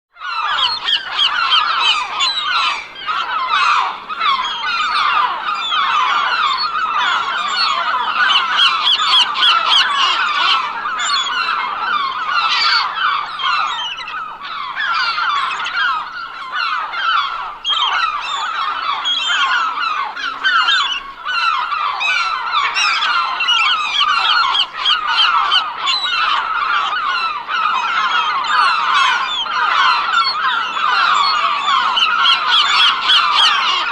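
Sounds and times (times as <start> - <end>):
gulls calling: 0.2 - 33.9.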